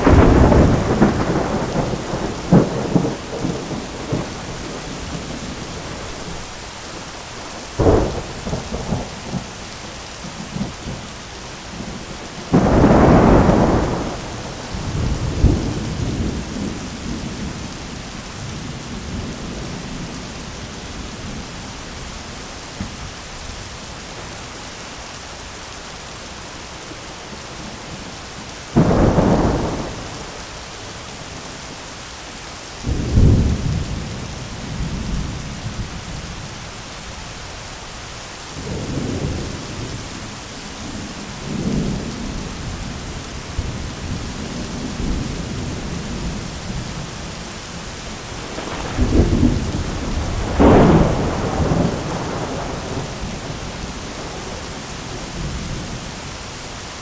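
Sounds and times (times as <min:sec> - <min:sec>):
thunder rumbling: 0:00.0 - 0:11.1, 0:11.7 - 0:21.6, 0:27.6 - 0:31.6, 0:32.8 - 0:36.6, 0:38.6 - 0:56.2
rain hiss: 0:00.0 - 0:57.0.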